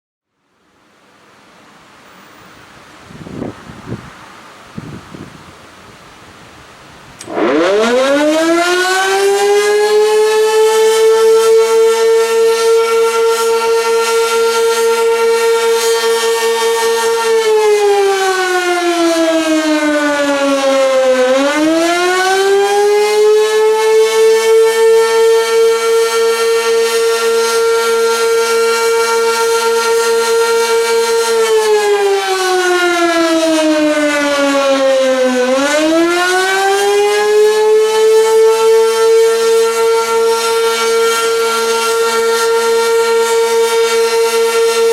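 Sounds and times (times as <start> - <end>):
warning siren wailing: 7.2 - 44.9.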